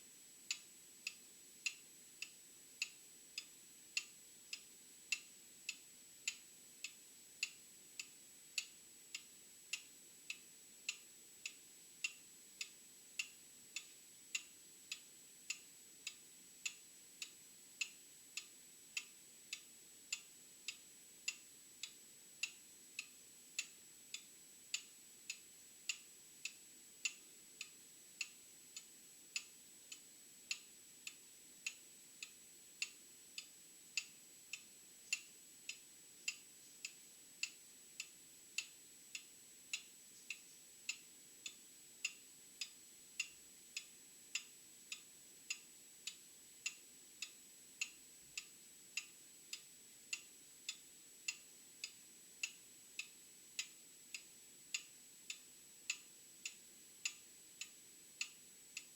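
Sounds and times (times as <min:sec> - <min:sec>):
mechanical clock ticking: 0:00.5 - 0:58.9.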